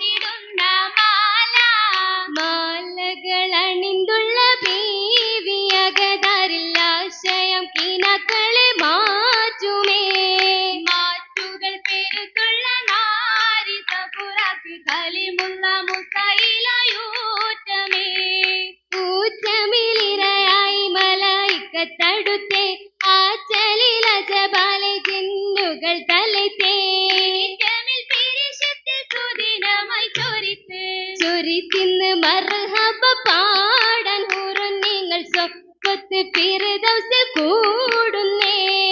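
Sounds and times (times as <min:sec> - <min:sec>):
girls singing in unison: 0:00.0 - 0:38.9
rhythmic hand-clapping: 0:00.0 - 0:38.9.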